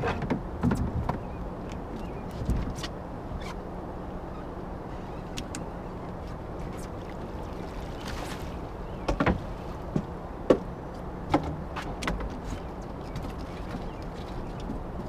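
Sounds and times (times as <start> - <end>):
knocks and clunks on boat: 0.0 - 3.6, 4.3 - 15.0
low motor hum: 0.0 - 15.0.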